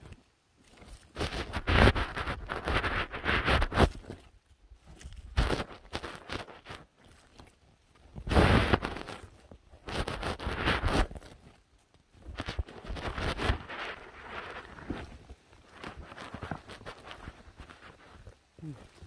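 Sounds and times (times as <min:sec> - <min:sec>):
footsteps through undergrowth: 0:00.0 - 0:19.0.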